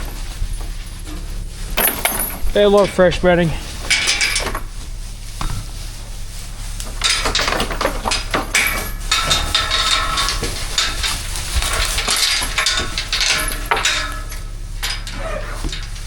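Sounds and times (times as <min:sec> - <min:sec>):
chain and metal gate rattling: 0:00.0 - 0:04.8, 0:06.9 - 0:16.0
steady low hum: 0:00.0 - 0:16.0.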